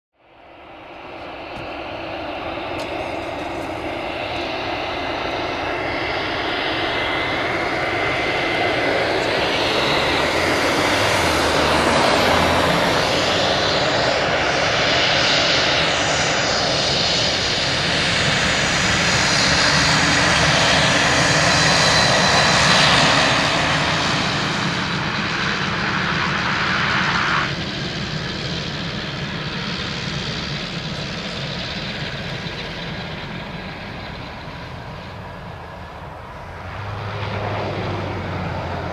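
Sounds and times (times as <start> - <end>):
turboprop aircraft passing: 0.2 - 38.9.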